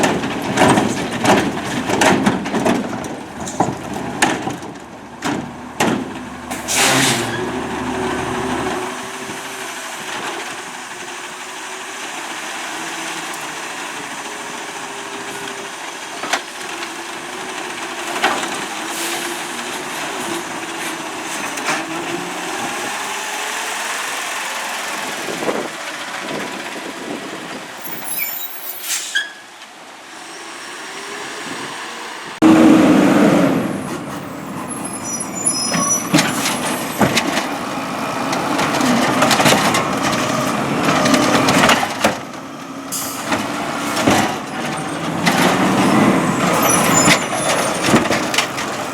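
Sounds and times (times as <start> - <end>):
garbage truck diesel engine: 0.0 - 48.9.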